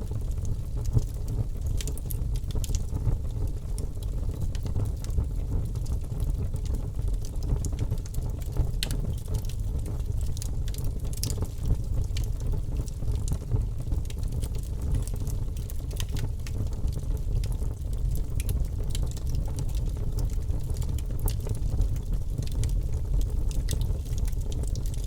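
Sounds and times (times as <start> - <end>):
fireplace fire crackling: 0.0 - 25.0.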